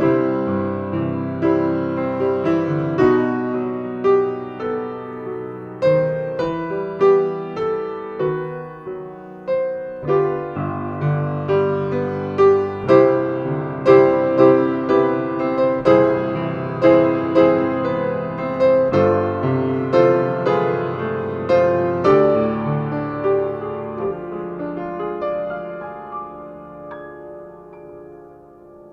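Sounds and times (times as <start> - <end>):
slow piano piece: 0.0 - 28.9.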